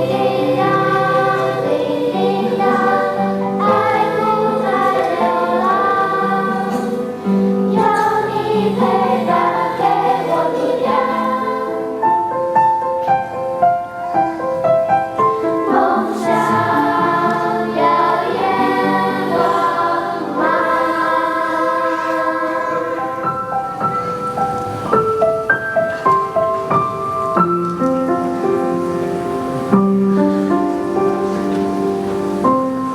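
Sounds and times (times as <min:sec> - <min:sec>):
choir singing held notes: 0:00.0 - 0:32.9.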